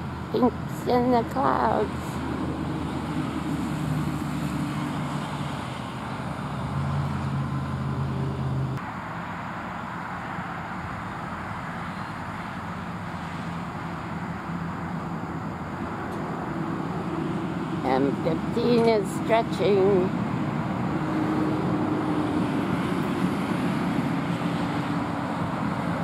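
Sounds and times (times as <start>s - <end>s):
traffic hiss: 0.0s - 26.0s
vehicle engine low hum: 0.0s - 26.0s.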